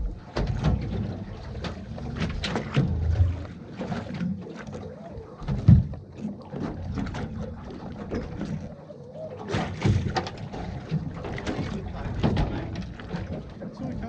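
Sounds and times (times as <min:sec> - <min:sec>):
knocks and thumps on boat: 0:00.0 - 0:14.0
water washing against hull: 0:00.0 - 0:14.0.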